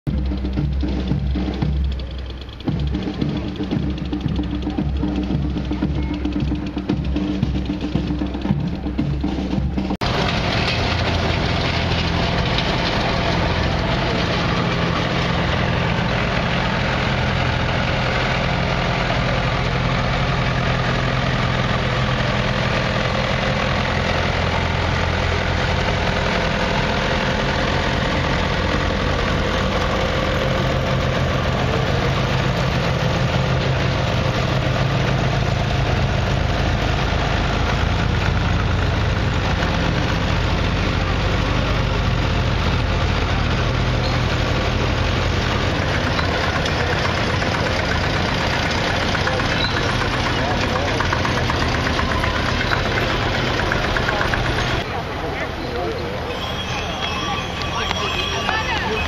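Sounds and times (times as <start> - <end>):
tractor engines running: 0.0 - 59.0.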